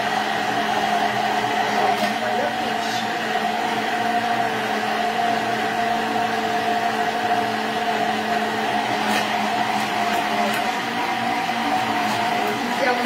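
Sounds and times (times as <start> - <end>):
immersion blender motor whine: 0.0 - 13.0.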